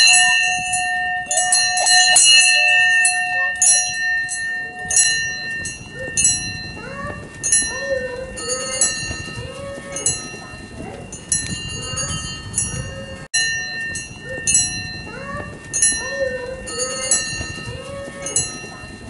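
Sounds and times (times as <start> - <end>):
small bells jingling: 0.0 - 19.0.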